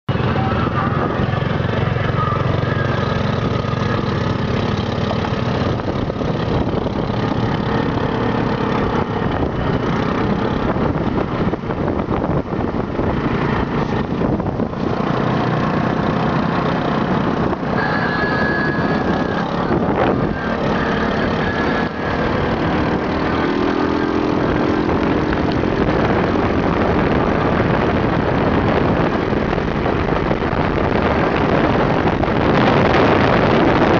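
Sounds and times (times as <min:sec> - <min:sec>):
dune buggy engines running: 0:00.1 - 0:33.9.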